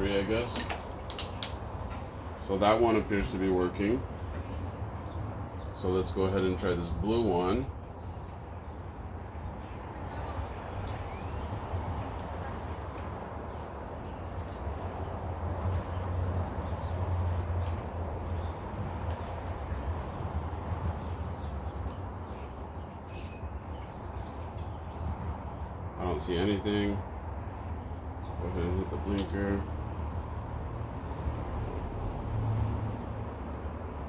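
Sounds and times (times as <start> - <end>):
small birds chirping: 0.0 - 32.1.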